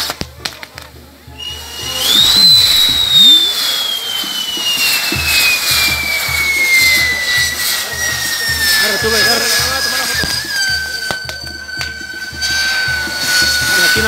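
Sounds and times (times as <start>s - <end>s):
hiss of burning fireworks: 0.0s - 14.0s
pyrotechnic whistle: 1.3s - 14.0s.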